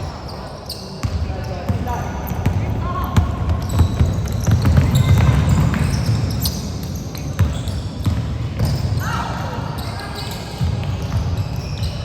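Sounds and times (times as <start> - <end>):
basketball bouncing on court: 1.0 - 12.0.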